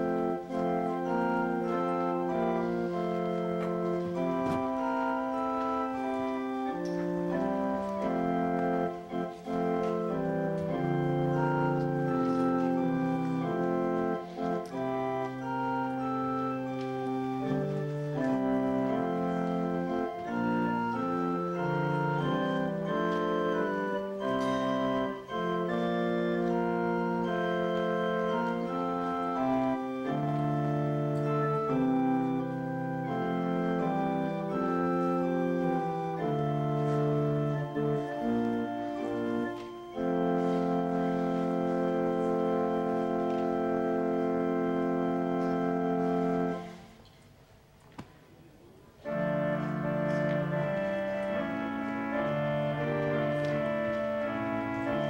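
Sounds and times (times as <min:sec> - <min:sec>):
church organ playing chords: 0:00.0 - 0:47.0, 0:49.0 - 0:55.0.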